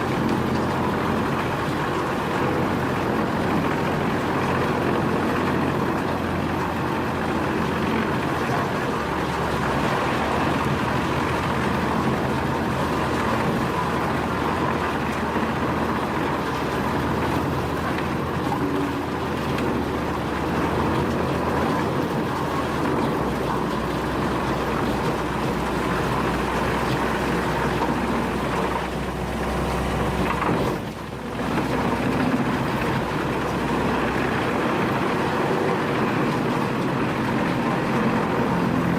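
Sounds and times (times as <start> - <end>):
wood chipper engine drone: 0.0 - 38.9
wood chipper grinding: 0.0 - 38.9.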